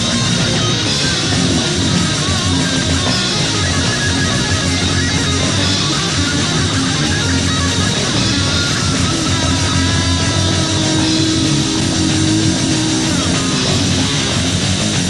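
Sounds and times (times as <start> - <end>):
bass guitar: 0.0 - 15.0
drums: 0.0 - 15.0
electric guitars: 0.0 - 15.0.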